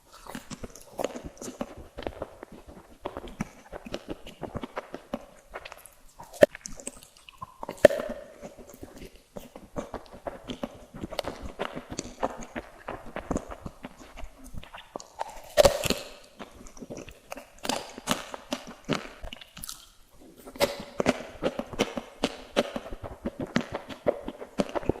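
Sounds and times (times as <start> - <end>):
crunchy chewing of sweets: 0.0 - 25.0.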